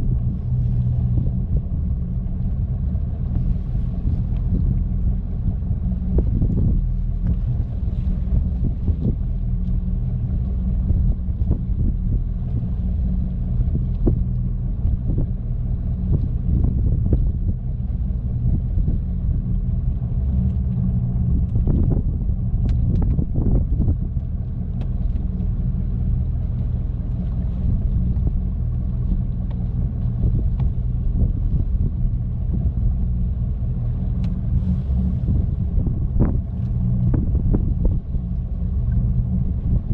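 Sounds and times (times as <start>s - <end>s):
boat engine rumbling: 0.0s - 39.9s.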